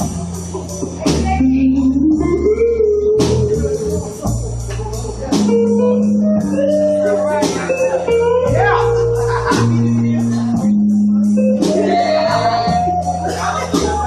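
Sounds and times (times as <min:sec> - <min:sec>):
bass line: 0:00.0 - 0:14.0.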